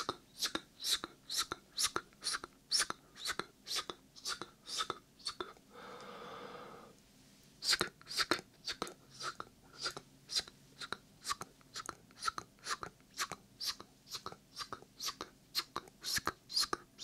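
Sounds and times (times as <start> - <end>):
whispered mouth hisses: 0.0 - 5.6, 7.6 - 16.9.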